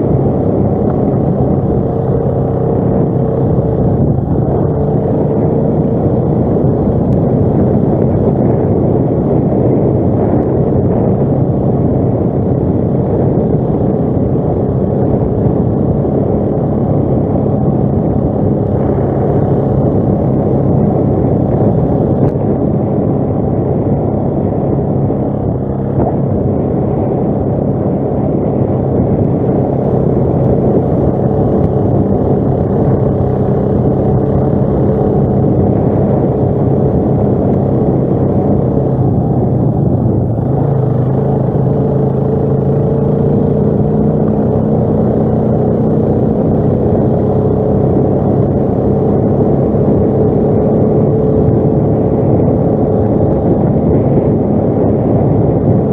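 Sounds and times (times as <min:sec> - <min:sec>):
atv engine running: 0:00.0 - 0:55.9.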